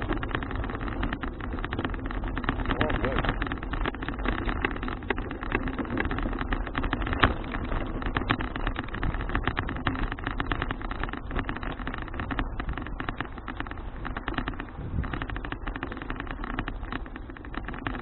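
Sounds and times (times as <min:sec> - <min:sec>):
bike rattling: 0:00.0 - 0:18.0
road rumble: 0:00.0 - 0:18.0
wind buffeting: 0:00.0 - 0:18.0.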